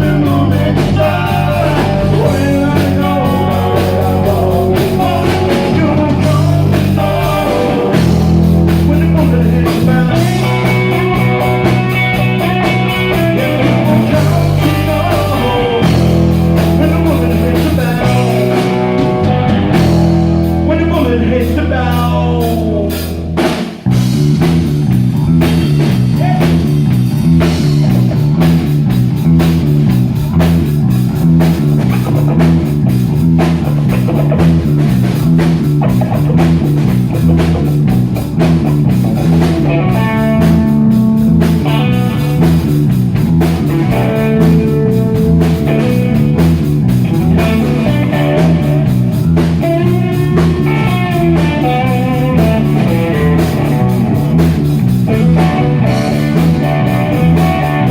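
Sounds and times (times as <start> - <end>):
bass guitar notes: 0.0 - 57.9
drum kit: 0.0 - 57.9
electric guitar riff: 0.0 - 57.9.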